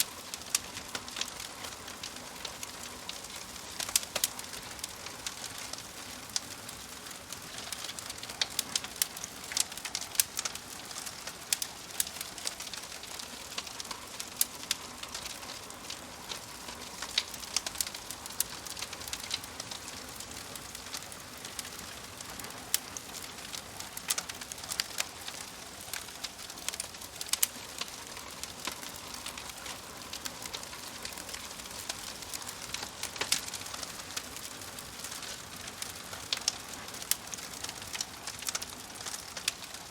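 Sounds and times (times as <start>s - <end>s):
soft steady fire hiss: 0.0s - 39.9s
wood fire crackling in stove: 0.0s - 39.9s.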